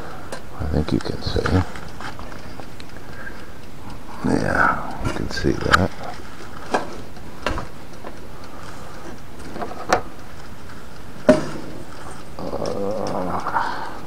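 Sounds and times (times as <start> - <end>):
steady low hiss: 0.0 - 14.0
toaster oven body ticking: 0.0 - 14.0.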